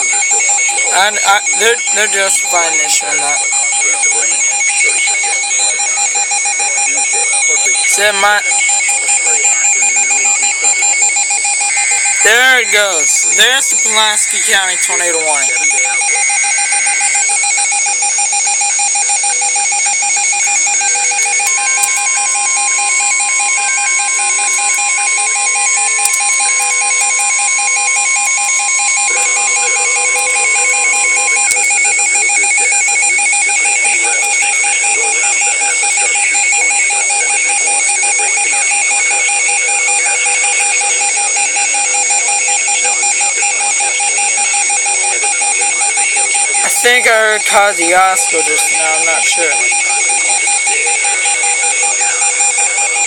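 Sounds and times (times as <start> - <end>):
pulsing electronic alarm: 0.0 - 53.0
steady alarm tone: 0.0 - 53.0.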